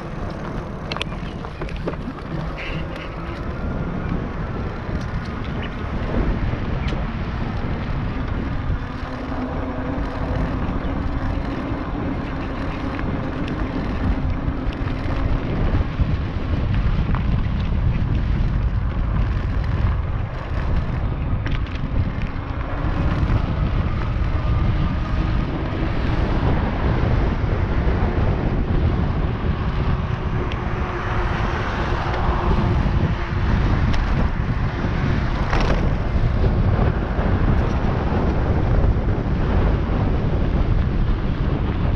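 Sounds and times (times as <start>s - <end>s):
electric motor whine: 0.0s - 41.8s
wind buffeting microphone: 0.0s - 41.9s.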